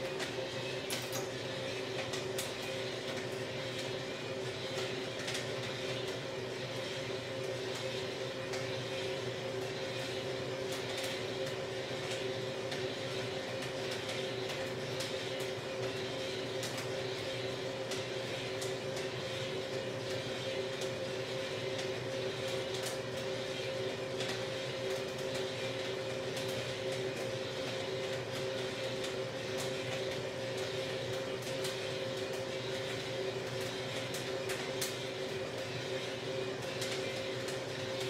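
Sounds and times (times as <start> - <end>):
coffee roaster humming: 0.0 - 38.0.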